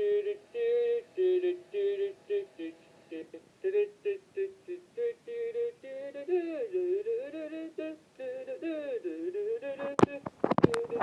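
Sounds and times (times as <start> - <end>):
person humming a tune: 0.0 - 11.0.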